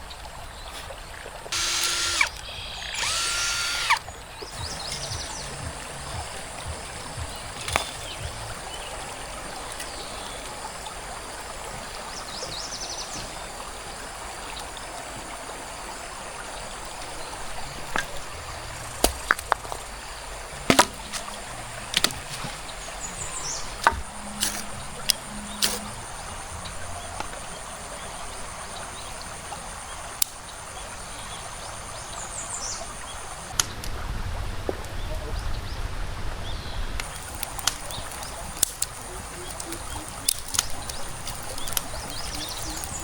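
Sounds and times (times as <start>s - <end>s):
forest stream flowing: 0.0s - 43.0s.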